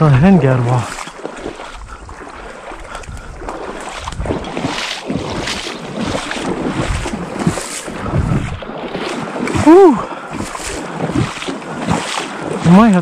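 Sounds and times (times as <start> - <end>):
water sloshing in a pond: 0.0 - 13.0
wind buffeting microphone: 0.7 - 13.0.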